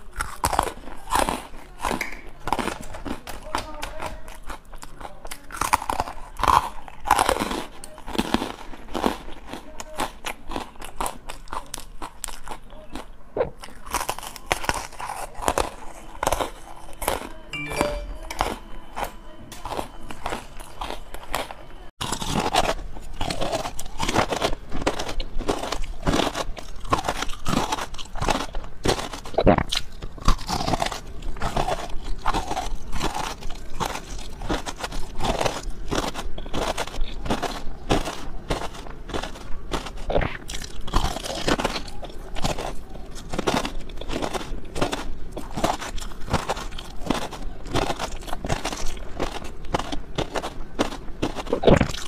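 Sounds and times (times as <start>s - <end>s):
candy being bitten and chewed: 0.0s - 52.0s.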